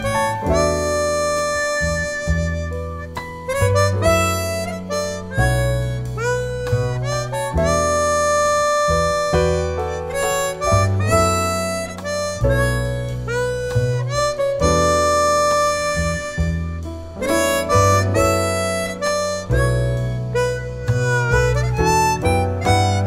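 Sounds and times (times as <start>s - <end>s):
backing track with guitar and bass: 0.0s - 23.0s
harmonica melody: 0.0s - 23.0s.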